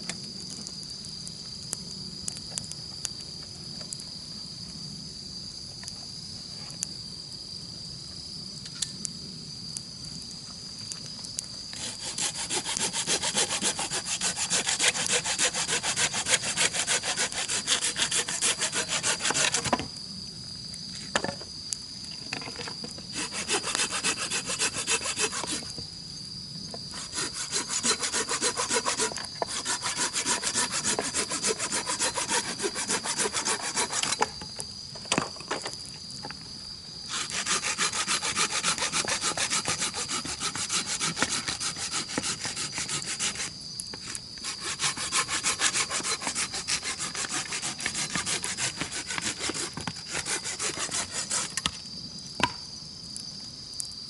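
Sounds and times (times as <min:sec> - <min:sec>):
high-pitched insect whine: 0:00.0 - 0:54.0
insects rasping trill: 0:00.0 - 0:54.0.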